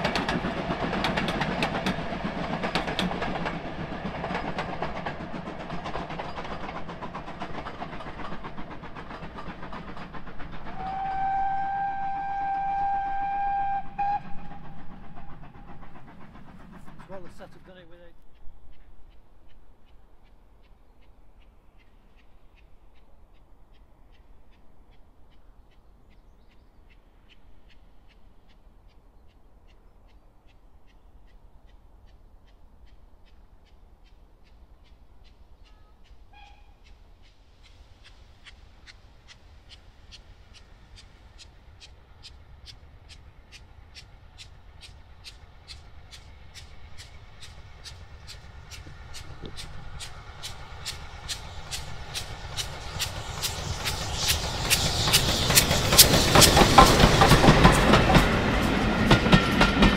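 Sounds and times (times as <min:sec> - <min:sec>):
distant steam locomotive exhaust beats: 0:00.0 - 0:59.9.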